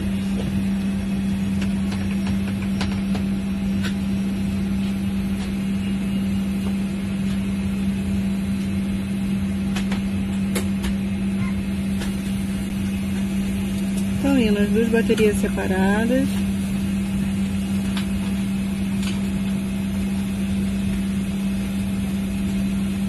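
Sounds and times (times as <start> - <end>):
low machinery hum: 0.0 - 23.0.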